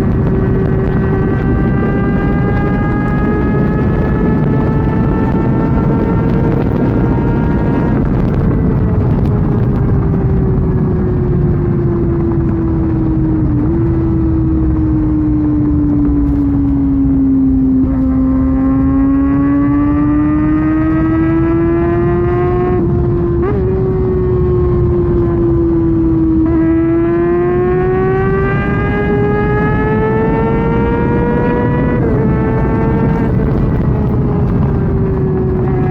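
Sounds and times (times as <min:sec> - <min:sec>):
motorcycle engine at speed: 0:00.0 - 0:35.9
wind rush: 0:00.0 - 0:35.9.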